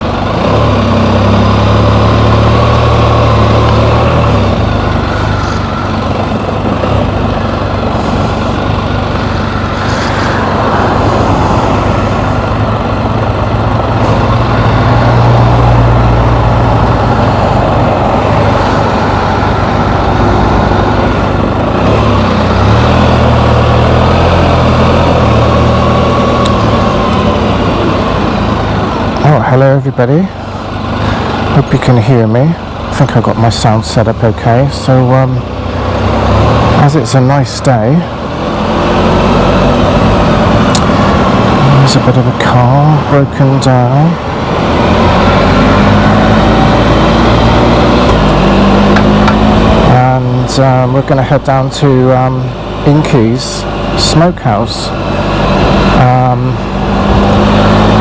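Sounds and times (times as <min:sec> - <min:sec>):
motorcycle engine humming: 0:00.0 - 0:58.0
road noise: 0:00.0 - 0:58.0.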